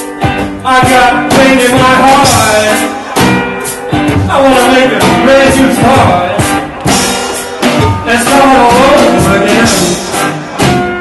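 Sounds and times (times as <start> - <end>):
drum kit with cymbal: 0.0 - 11.0
person singing: 0.0 - 11.0
upright bass: 0.0 - 11.0.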